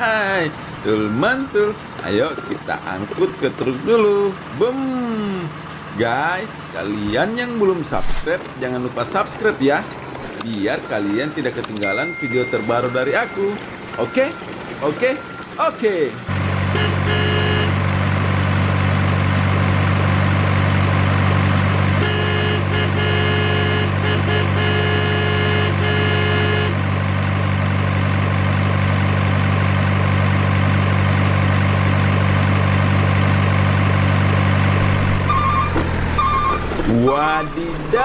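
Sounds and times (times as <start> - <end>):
truck engine rumble: 0.0 - 38.0.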